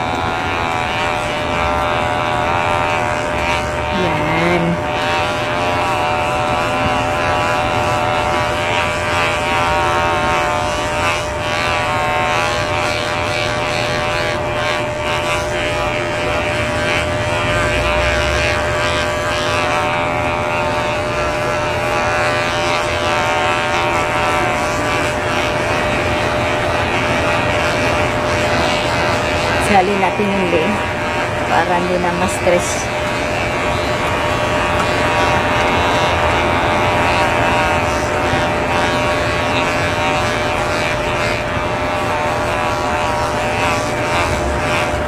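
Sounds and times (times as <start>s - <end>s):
vibration motor buzzing: 0.0s - 45.0s.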